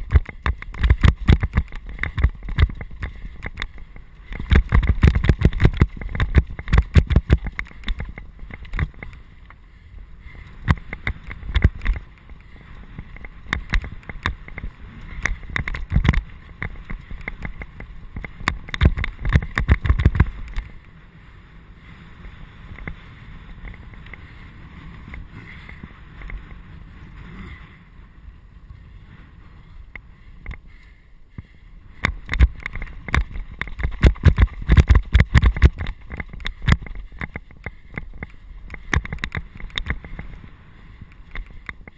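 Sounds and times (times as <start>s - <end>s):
bike rattling over stony trail: 0.0s - 28.2s, 29.2s - 41.9s.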